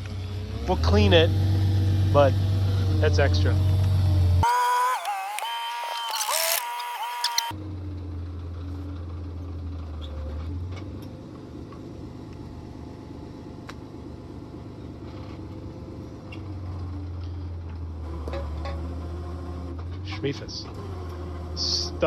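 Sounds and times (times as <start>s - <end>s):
tractor engine running: 0.0s - 5.4s, 6.2s - 22.0s.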